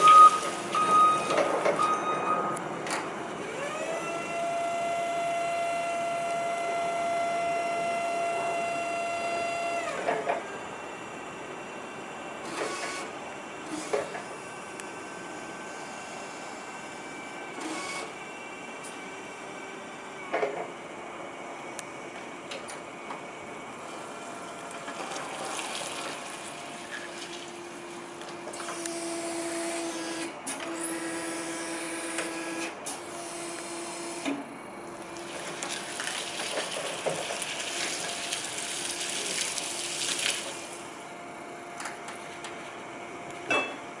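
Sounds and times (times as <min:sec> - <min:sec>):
electric hydraulic pump motor whining: 0:00.0 - 0:18.2, 0:23.2 - 0:41.0.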